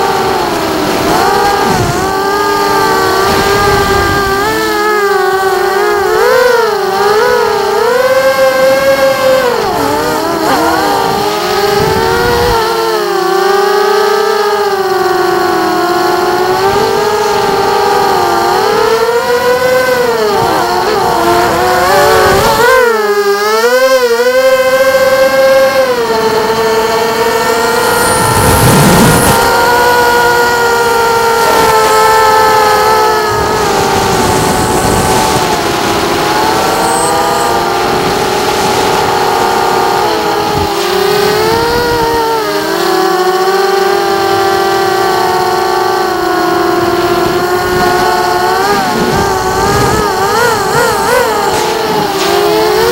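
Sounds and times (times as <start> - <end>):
rush of wind: 0.0 - 12.9, 14.8 - 23.0, 25.0 - 42.9, 44.3 - 52.9
quadcopter motors whining: 0.0 - 52.9.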